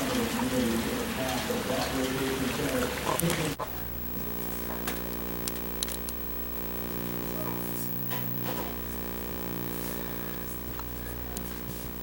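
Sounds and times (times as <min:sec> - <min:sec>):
electrical hum with low buzz: 0:00.0 - 0:12.0.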